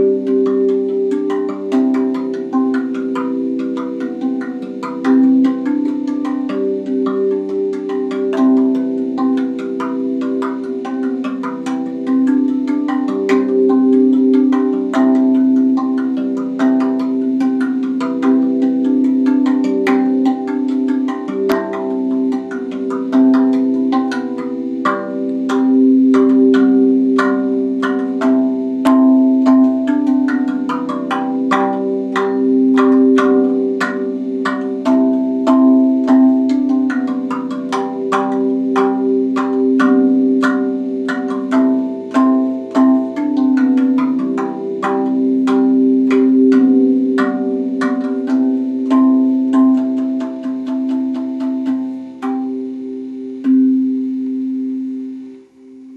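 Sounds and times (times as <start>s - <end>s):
steel tongue drum notes: 0.0s - 55.9s.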